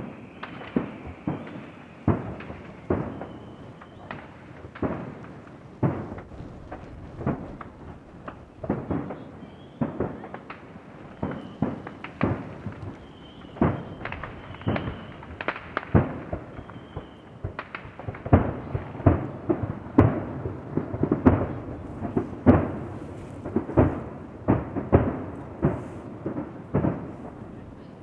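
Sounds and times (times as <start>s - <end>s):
distant fireworks bangs: 0.0s - 28.0s.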